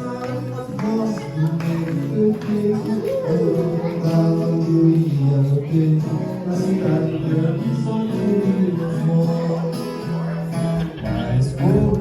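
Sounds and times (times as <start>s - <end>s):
acoustic guitar playing: 0.0s - 12.0s
voices singing along: 0.0s - 12.0s.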